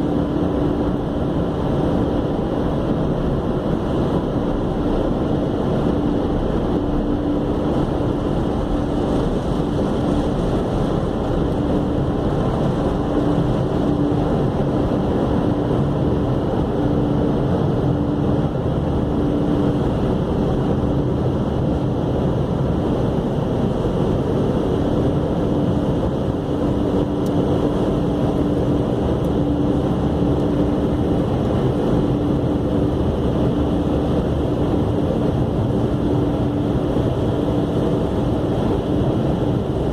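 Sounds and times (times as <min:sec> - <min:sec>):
machine running with low hum: 0:00.0 - 0:39.9.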